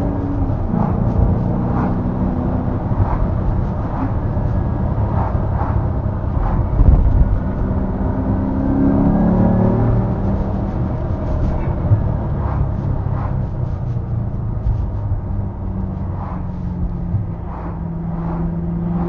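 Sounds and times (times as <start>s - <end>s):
car engine accelerating: 0.0s - 19.0s
passing car rush: 0.0s - 19.0s.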